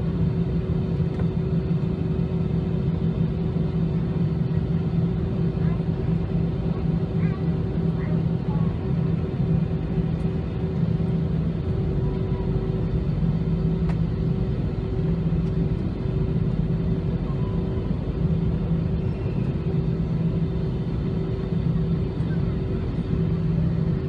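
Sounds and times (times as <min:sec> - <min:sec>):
constant low hum: 0:00.0 - 0:24.0
jet engines idling drone: 0:00.0 - 0:24.0.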